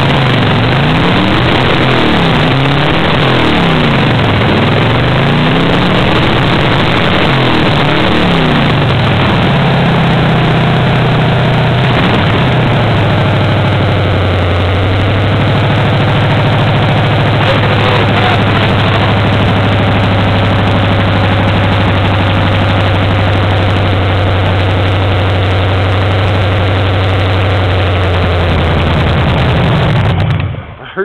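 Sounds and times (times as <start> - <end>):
vee eight engine running on open headers: 0.0 - 30.8.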